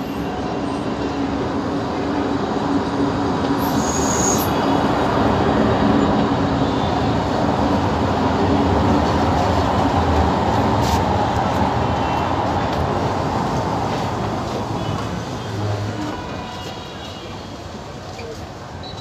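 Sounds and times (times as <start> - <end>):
train engine and wheels rumbling: 0.0 - 19.0.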